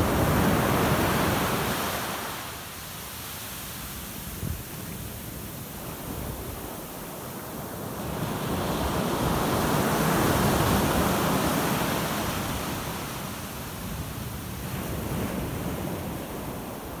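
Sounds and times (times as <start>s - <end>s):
ocean waves crashing: 0.0s - 4.4s, 5.4s - 17.0s
steady wash of sea: 0.0s - 17.0s.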